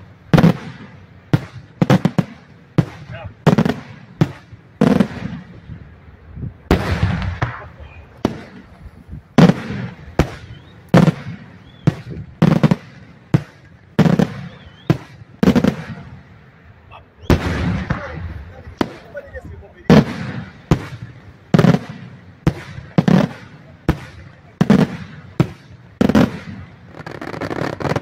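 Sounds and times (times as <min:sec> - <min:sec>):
fireworks bangs with echo: 0:00.0 - 0:16.5, 0:17.2 - 0:28.0.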